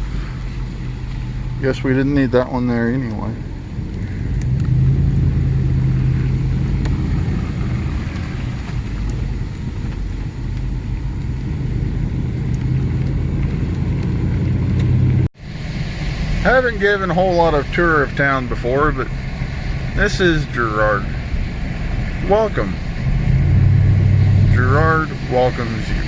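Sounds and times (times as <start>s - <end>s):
vehicle engine and road hum: 0.0s - 26.0s.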